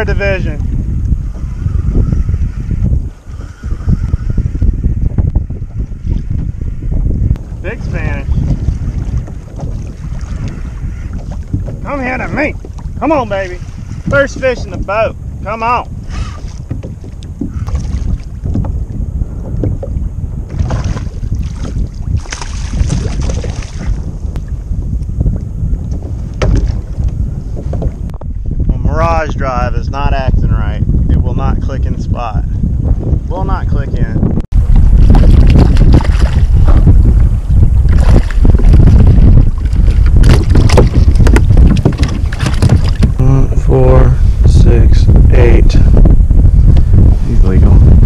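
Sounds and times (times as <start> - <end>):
water moving around a hull: 0.0 - 29.5, 34.2 - 48.0
wind buffeting microphone: 0.0 - 48.0.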